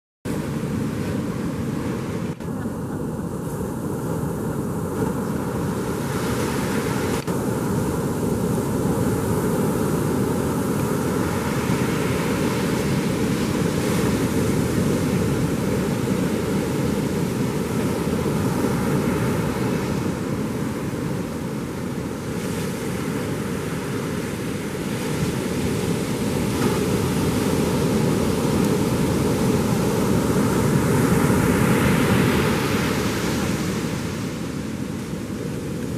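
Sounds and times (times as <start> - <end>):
ocean surf washing onto beach: 0.3 - 35.9
wind on microphone: 0.3 - 35.9.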